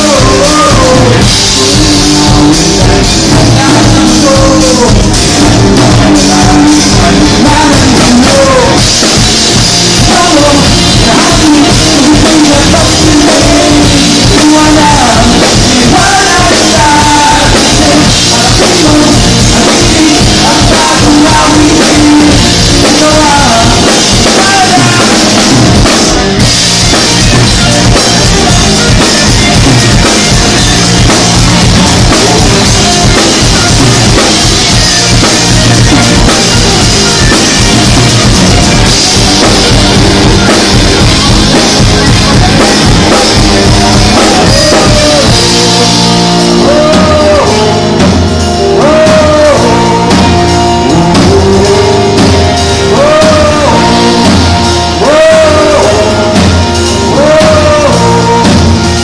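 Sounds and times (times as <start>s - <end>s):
bass guitar: 0.0s - 59.0s
drum kit: 0.0s - 59.0s
electric guitars: 0.0s - 59.0s.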